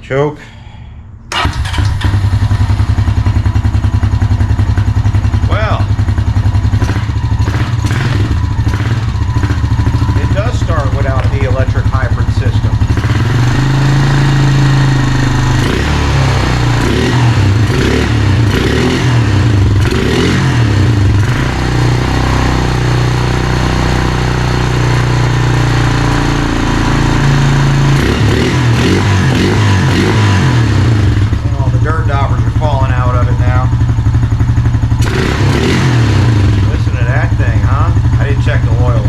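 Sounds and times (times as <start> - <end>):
atv engine revving: 1.3 - 39.0.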